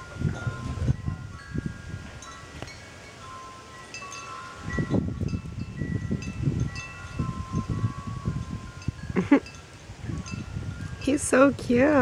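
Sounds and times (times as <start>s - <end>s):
wind chimes ringing: 0.0s - 11.6s.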